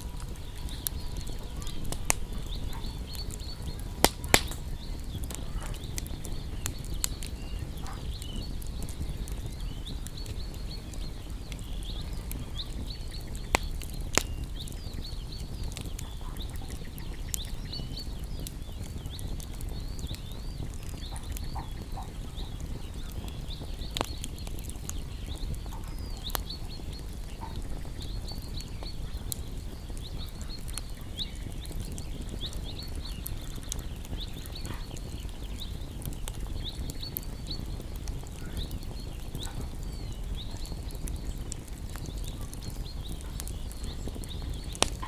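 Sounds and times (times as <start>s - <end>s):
bonfire crackling: 0.0s - 45.0s
small birds chirping: 0.0s - 45.0s.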